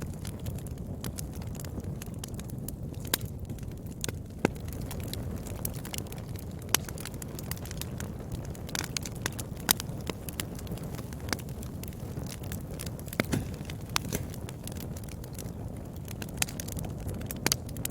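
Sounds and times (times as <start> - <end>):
fire crackles and pops: 0.0 - 17.9
wood fire rumbling: 0.0 - 17.9.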